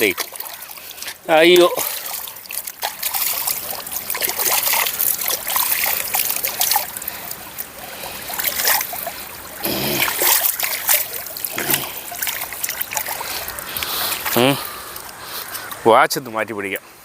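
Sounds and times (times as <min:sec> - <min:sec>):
water splashing and trickling: 0:00.0 - 0:17.0.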